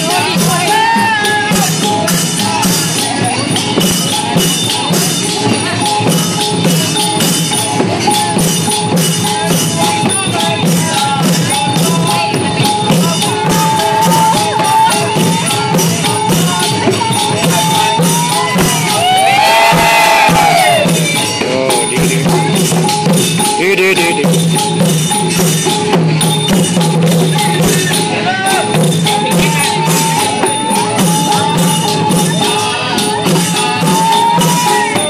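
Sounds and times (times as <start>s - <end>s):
procession music with jingling percussion: 0.0s - 35.0s.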